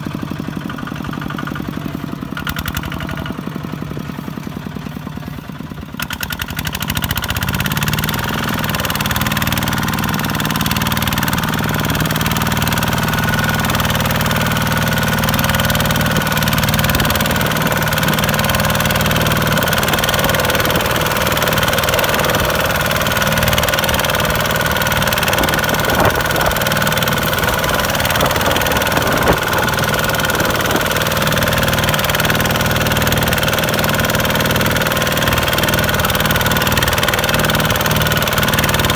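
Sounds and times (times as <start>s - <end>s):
diesel engine running under load: 0.0s - 38.9s.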